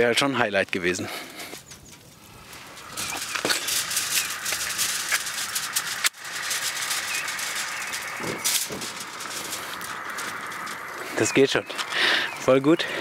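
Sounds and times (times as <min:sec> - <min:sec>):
gas burner hissing and crackling: 0:00.0 - 0:13.0.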